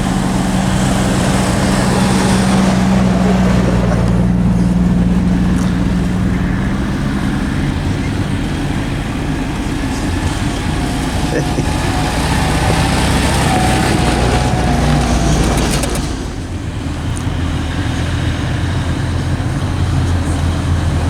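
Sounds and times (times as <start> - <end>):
road and trail noise: 0.0 - 21.0
vehicle engine running: 0.0 - 21.0.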